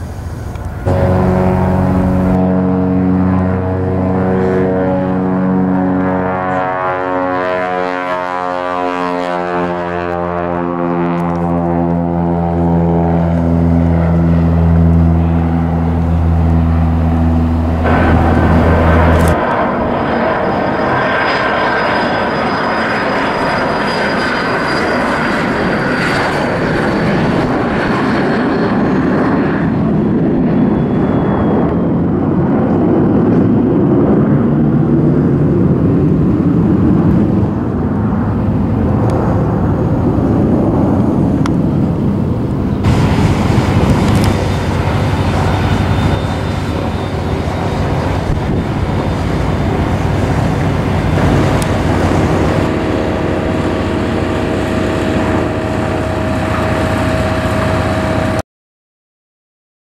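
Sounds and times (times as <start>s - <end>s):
airplane engine roar: 0.0s - 58.4s
high whine dropping in pitch: 0.0s - 58.4s.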